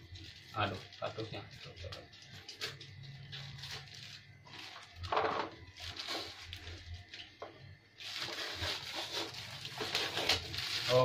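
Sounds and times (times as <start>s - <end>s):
plastic wrapping crinkling and tearing: 0.0s - 7.4s, 8.0s - 11.0s.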